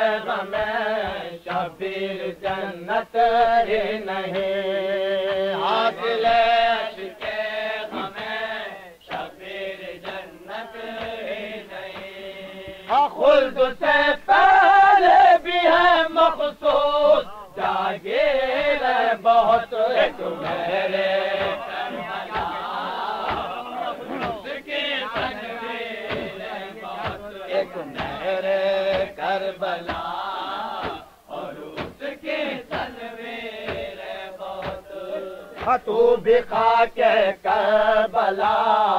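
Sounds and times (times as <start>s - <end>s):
men chanting melodic recitation: 0.0s - 38.9s.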